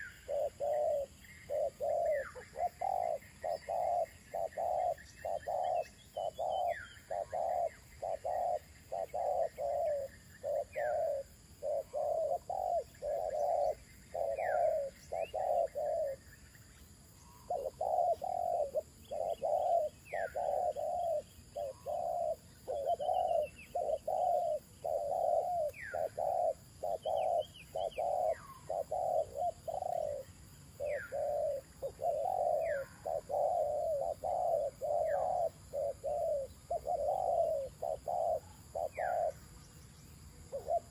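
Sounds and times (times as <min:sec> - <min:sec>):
doves cooing: 0:00.0 - 0:16.3, 0:17.4 - 0:39.5, 0:40.5 - 0:40.9.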